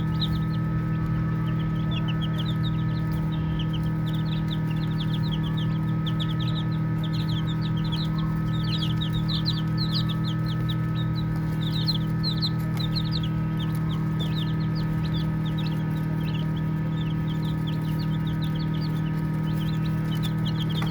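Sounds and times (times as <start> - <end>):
baby chicks peeping: 0.0 - 20.9
steady low hum: 0.0 - 20.9.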